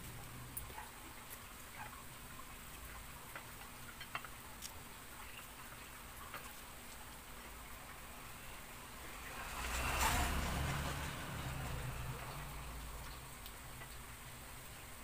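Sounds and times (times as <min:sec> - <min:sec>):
leaves clicking and crackling: 0:00.0 - 0:15.0.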